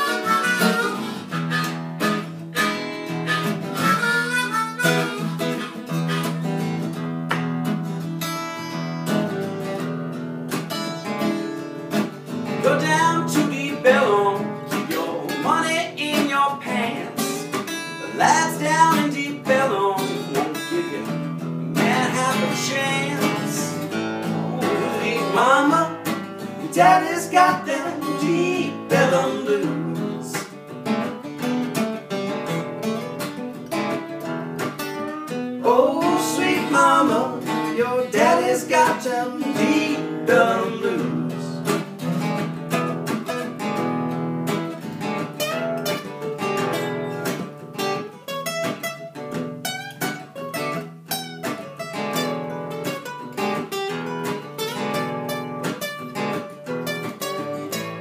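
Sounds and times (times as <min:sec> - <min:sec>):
acoustic guitars folk blues: 0:00.0 - 0:58.0.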